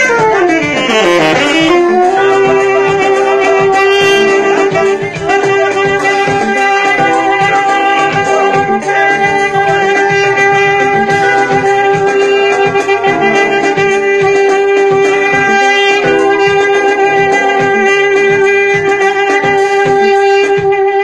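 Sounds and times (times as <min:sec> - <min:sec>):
backing track with steady beat: 0:00.0 - 0:21.0
saxophone long held note: 0:00.0 - 0:21.0.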